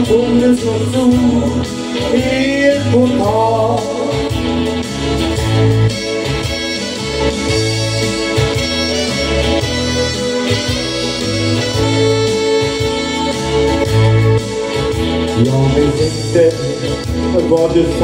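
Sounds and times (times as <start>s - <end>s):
instrumental ballad backing track: 0.0s - 18.0s
lead melody bending: 0.0s - 18.0s.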